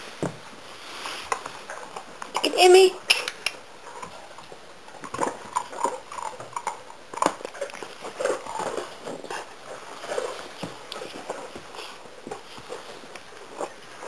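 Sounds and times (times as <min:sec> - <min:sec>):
chewing and scuffling on dog bed: 0:00.0 - 0:14.0.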